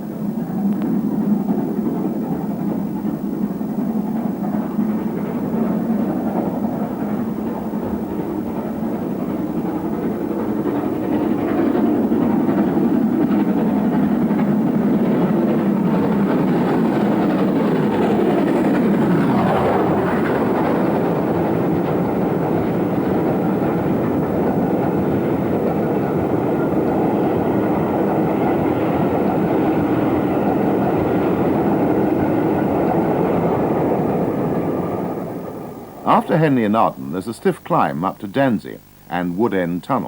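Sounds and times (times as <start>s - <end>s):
wheels on rails: 0.0s - 36.3s
steam locomotive passing: 0.0s - 40.0s.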